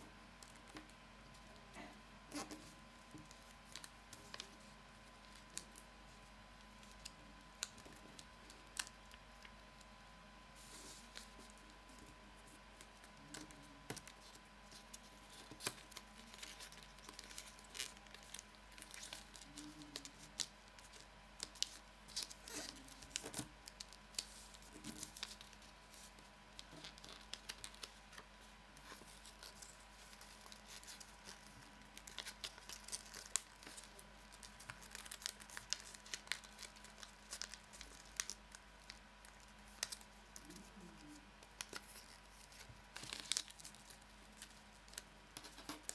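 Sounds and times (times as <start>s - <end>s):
paper crinkling as folded: 2.3s - 9.9s, 10.6s - 45.9s.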